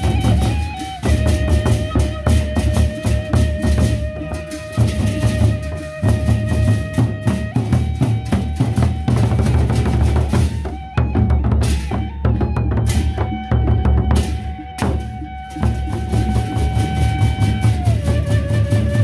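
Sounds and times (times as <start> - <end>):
barrel drums beaten with sticks: 0.0 - 19.0
flute holding long notes: 0.0 - 19.0.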